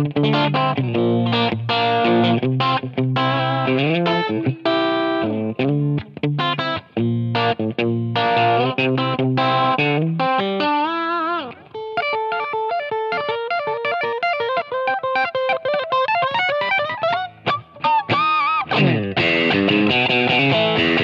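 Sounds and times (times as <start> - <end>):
electric guitar chords: 0.0 - 21.0
electric guitar lead line: 0.0 - 21.0.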